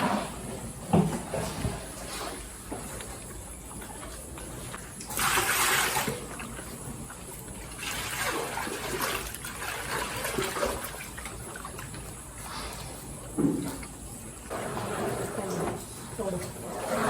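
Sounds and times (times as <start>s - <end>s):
cows slurping and munching: 0.0s - 17.0s.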